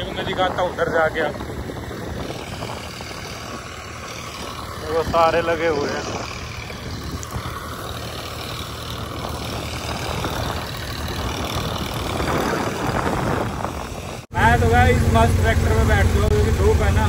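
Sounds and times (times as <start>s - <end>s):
low engine hum: 0.0s - 17.0s
thresher rushing noise: 0.0s - 17.0s.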